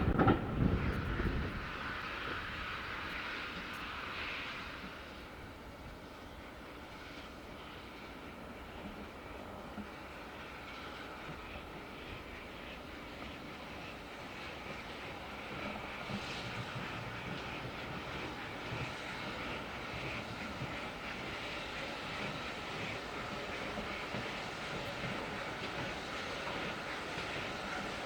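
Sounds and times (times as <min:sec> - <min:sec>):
steam locomotive rushing: 0:00.0 - 0:28.0.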